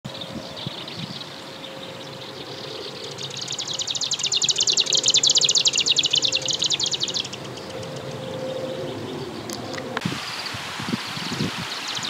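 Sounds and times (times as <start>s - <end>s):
warbler song: 0.1s - 12.0s.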